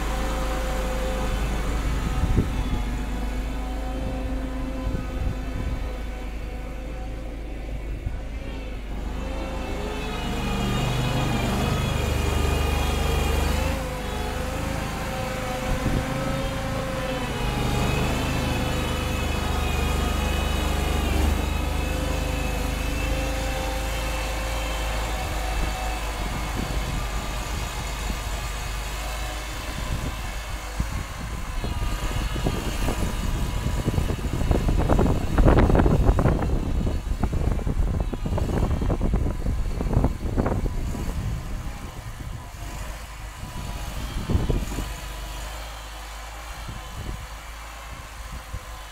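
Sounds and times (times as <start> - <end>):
loader engine revving: 0.0 - 48.9.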